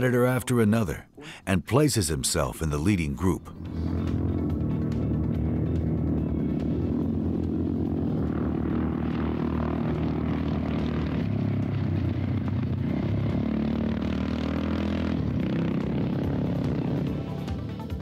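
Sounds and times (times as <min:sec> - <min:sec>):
motorcycle engines passing: 0:03.2 - 0:18.0.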